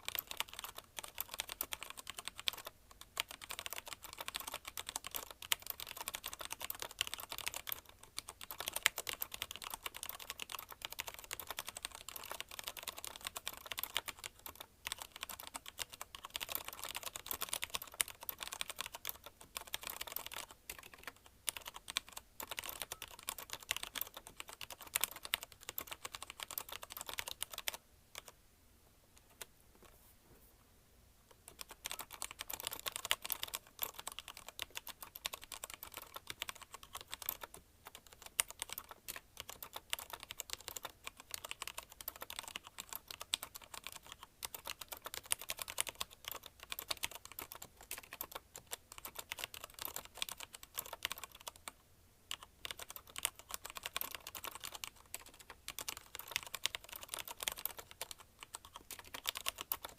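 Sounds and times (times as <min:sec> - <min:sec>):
fast typing on mechanical keyboard: 0:00.0 - 0:28.4, 0:31.4 - 0:59.9.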